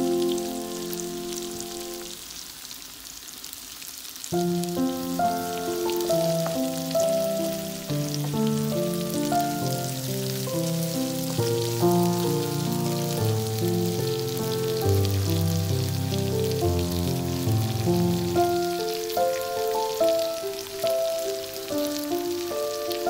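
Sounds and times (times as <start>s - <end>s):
vegetables sizzling in a pan: 0.0s - 23.0s
instrumental background music: 4.4s - 23.0s.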